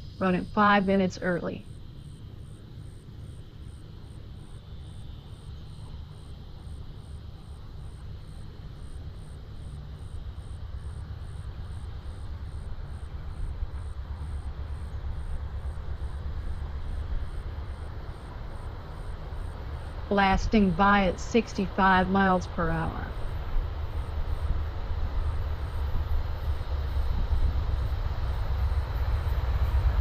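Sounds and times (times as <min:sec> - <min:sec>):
passenger train rumble: 0:00.0 - 0:03.1, 0:03.7 - 0:30.0.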